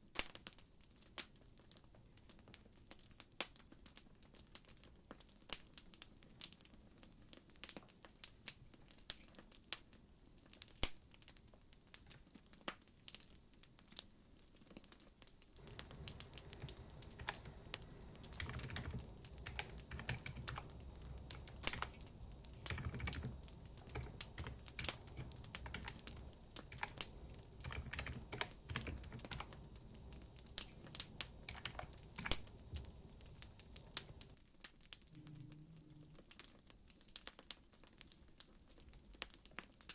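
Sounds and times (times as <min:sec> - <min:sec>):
wood fire crackling and popping: 0:00.0 - 0:39.9
low rumble of burning fire: 0:00.1 - 0:39.9.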